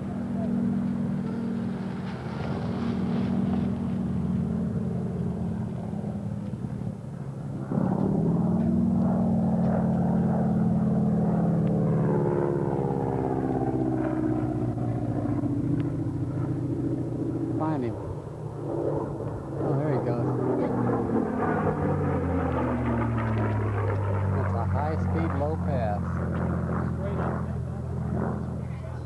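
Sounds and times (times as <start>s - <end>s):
engine passing by: 0.0s - 29.0s.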